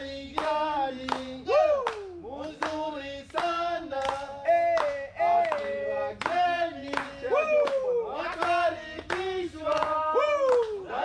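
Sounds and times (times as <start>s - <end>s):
hand claps: 0.0s - 11.0s
people singing: 0.0s - 11.0s.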